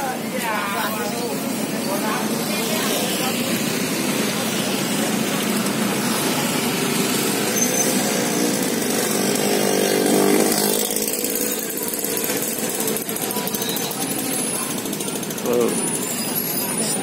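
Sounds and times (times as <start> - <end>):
small motor running: 2.2 - 16.7.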